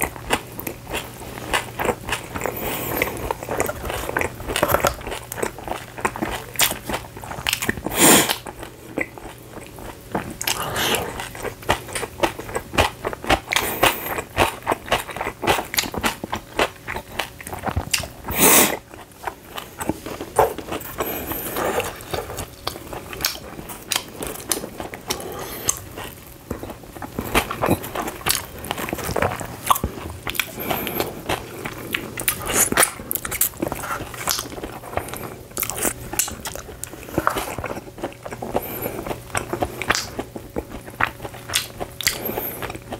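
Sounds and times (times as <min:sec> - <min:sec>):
person chewing crunchy food: 0:00.0 - 0:42.9.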